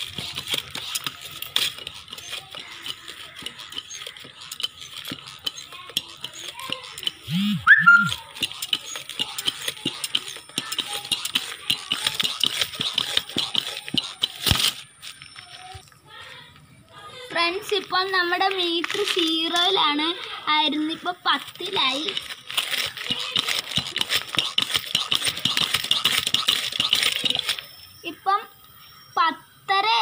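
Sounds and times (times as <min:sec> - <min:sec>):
foot pump clicking and rattling: 0:00.0 - 0:27.8.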